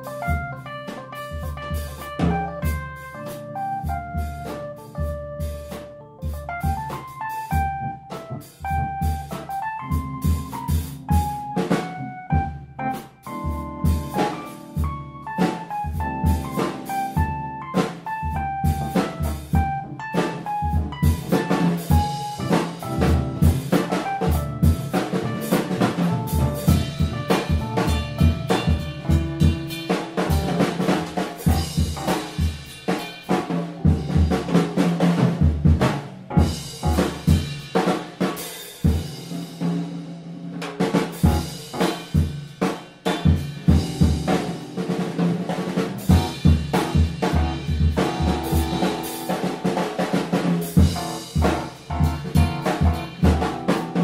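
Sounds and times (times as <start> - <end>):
jazz band playing: 0.0 - 39.9, 40.5 - 54.0
snare and bass drum hits: 0.0 - 54.0.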